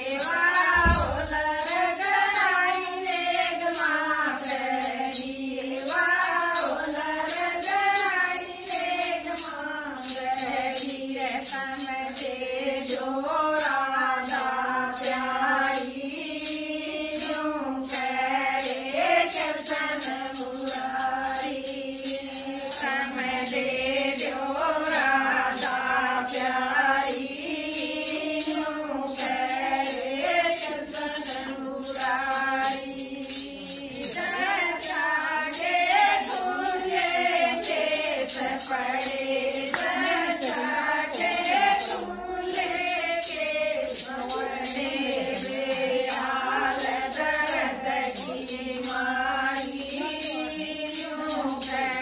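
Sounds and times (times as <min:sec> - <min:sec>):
hand percussion beat: 0:00.0 - 0:52.0
women singing folk song: 0:00.0 - 0:52.0.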